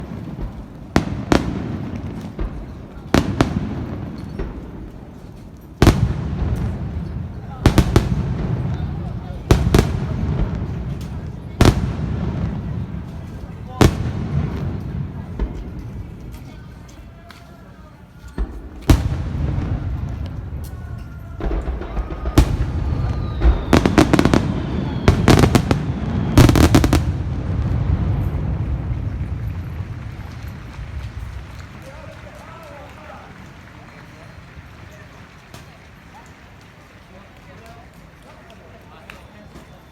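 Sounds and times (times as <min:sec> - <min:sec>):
fireworks bangs: 0:00.0 - 0:17.4, 0:18.1 - 0:36.4
fireworks pops: 0:00.0 - 0:36.8, 0:37.4 - 0:39.9.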